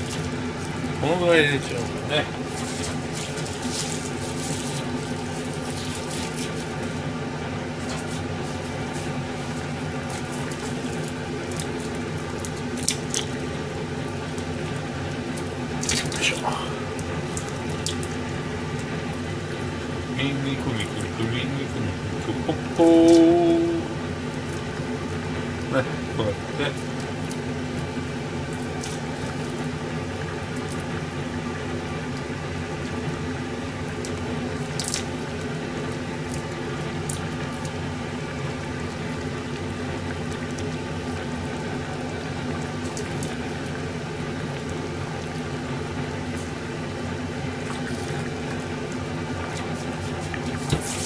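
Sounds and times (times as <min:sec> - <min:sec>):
kitchen hum: 0:00.0 - 0:51.0
pot bubbling: 0:00.0 - 0:51.0.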